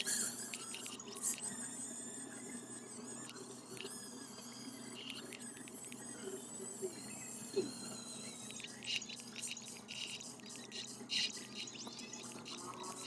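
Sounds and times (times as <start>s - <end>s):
small electric motors whining: 0.0s - 13.0s.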